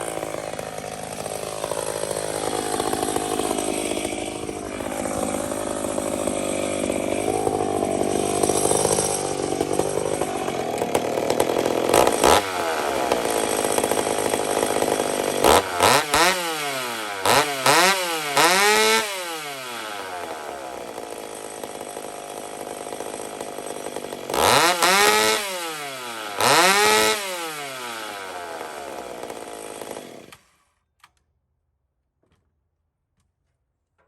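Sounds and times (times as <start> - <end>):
chainsaw engine idling and revving: 0.0 - 30.6.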